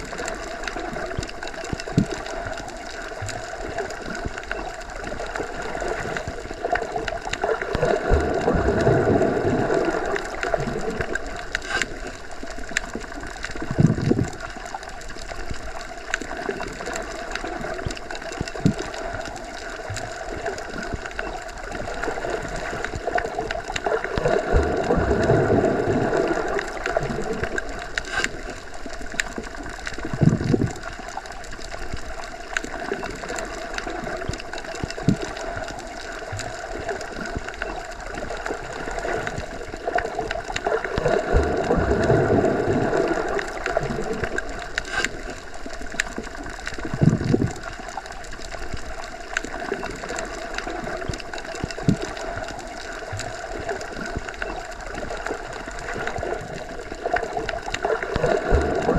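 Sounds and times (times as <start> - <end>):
muffled underwater water rush: 0.0 - 58.9.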